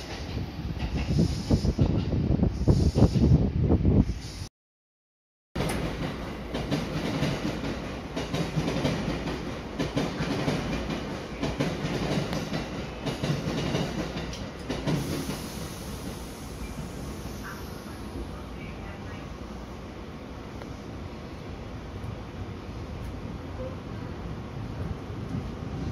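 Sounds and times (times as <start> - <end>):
train running slowly rumbling: 0.0 - 4.5, 5.6 - 25.9.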